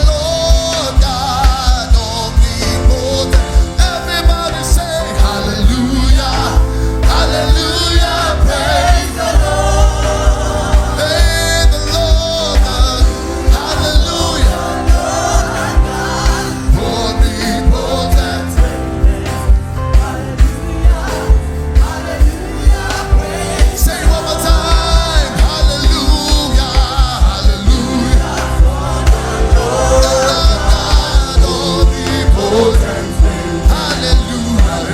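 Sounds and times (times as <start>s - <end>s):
keyboard chords: 0.0s - 34.9s
pounding bass drum beat: 0.0s - 34.9s
voices singing together: 0.0s - 34.9s.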